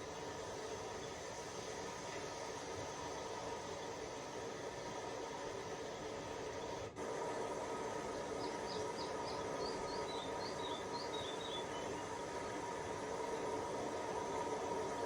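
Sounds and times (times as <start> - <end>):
rumbling hissing ambience: 0.0 - 15.0.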